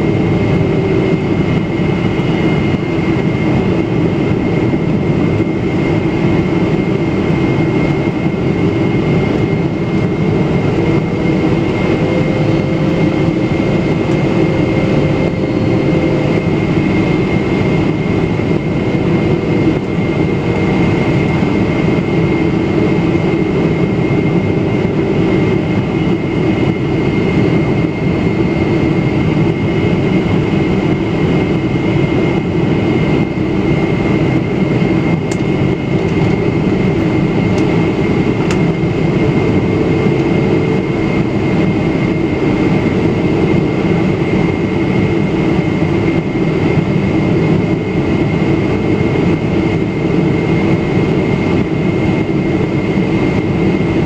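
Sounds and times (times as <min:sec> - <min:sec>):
aircraft cabin engine whine: 0:00.0 - 0:54.0
low engine tone: 0:00.0 - 0:54.0.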